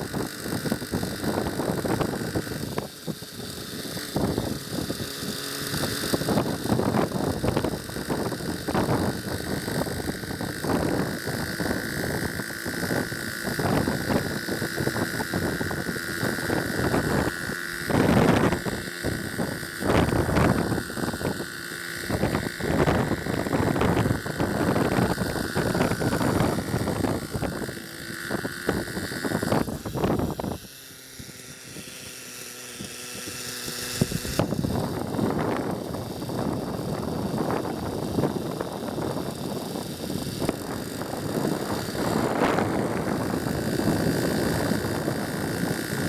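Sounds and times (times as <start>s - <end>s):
wind buffeting microphone: 0.0s - 30.7s, 33.2s - 46.0s
model helicopter engine whining: 0.0s - 46.0s.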